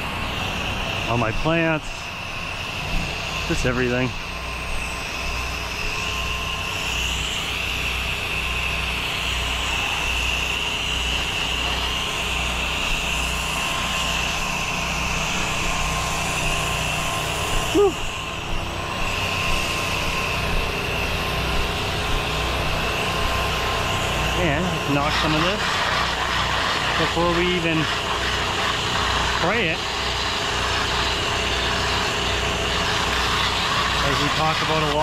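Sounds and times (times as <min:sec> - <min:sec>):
pressure washer engine hum: 0:00.0 - 0:35.0.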